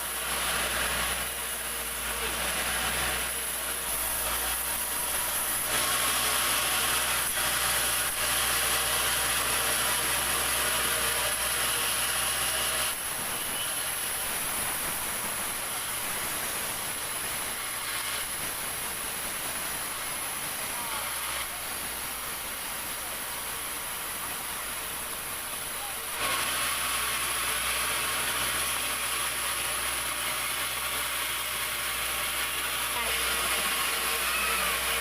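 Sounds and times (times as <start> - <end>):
saw cutting wood: 0.0 - 35.0.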